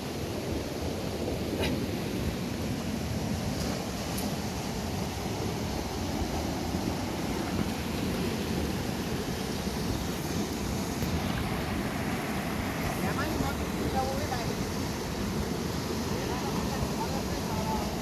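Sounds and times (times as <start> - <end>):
river running over rocks: 0.0 - 18.0.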